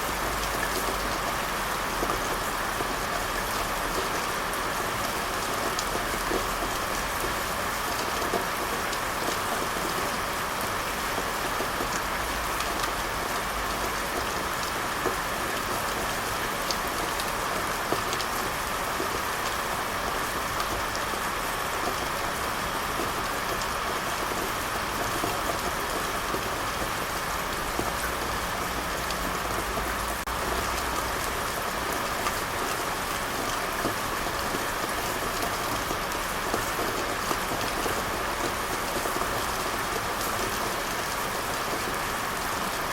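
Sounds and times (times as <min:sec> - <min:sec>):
steady rain hiss: 0:00.0 - 0:42.9.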